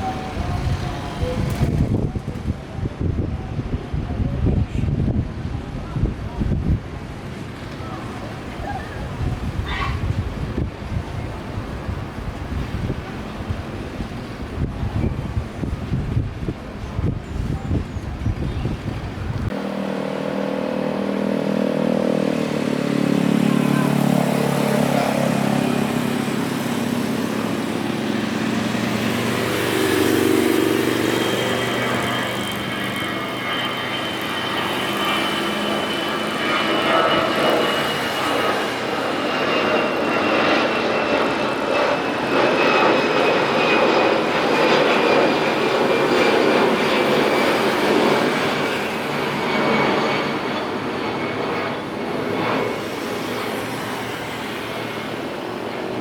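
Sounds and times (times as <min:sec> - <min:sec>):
high engine whine: 0:00.0 - 0:56.0
jet airliner taking off: 0:00.0 - 0:56.0.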